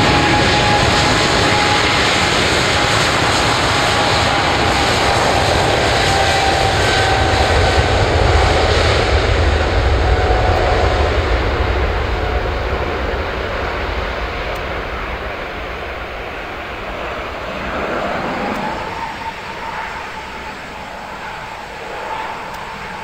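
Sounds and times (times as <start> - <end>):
jet engine rumble: 0.0 - 23.0
jet engine whine: 0.0 - 23.0.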